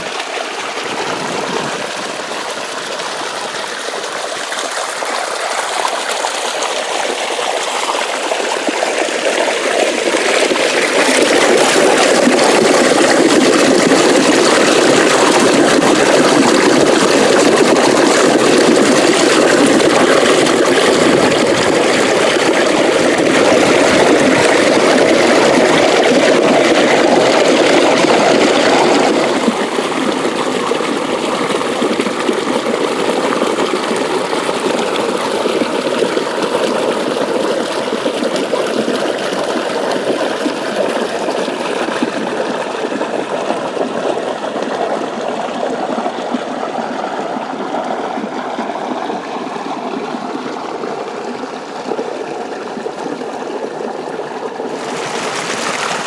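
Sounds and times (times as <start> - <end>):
water running and gurgling: 0.0 - 56.0.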